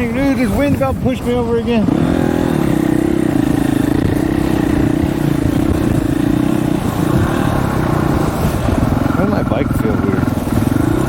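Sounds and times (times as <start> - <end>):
dirt bike engine running: 0.0 - 11.0
wind rumbling on microphone: 0.0 - 11.0.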